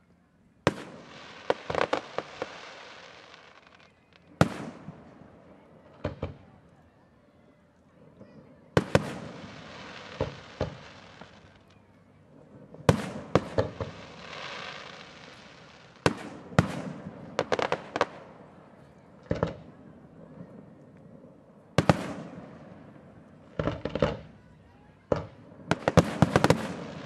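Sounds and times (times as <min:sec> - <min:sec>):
fireworks bangs with echo: 0:00.7 - 0:06.6, 0:08.2 - 0:27.0.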